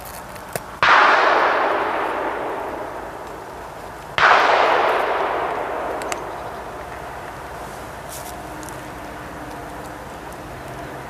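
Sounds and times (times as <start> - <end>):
distant gunshots echoing: 0.8 - 11.0.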